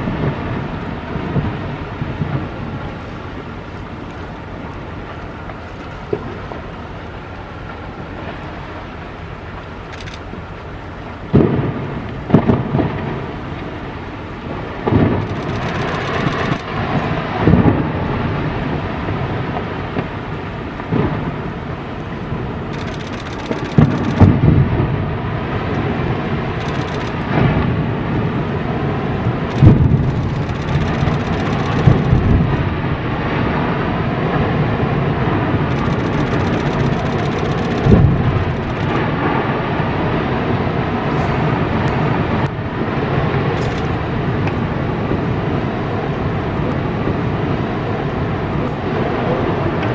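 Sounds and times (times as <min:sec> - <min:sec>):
steady rumbling background: 0:00.0 - 0:49.9.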